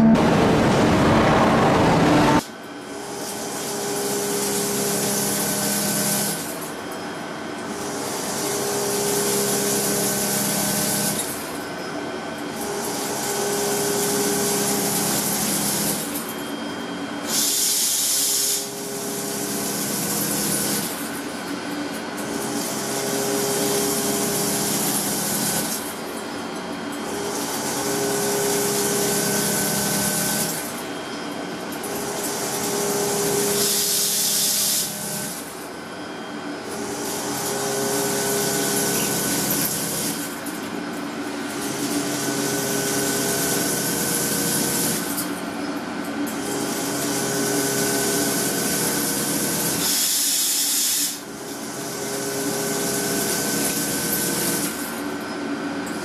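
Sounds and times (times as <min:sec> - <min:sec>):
machine hum: 0:00.0 - 0:50.5.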